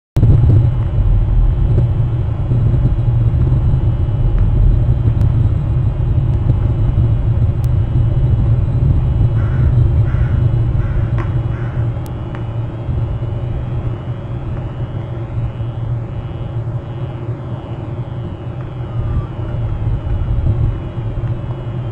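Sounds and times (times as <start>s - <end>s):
steady low rumble: 0.2s - 21.9s.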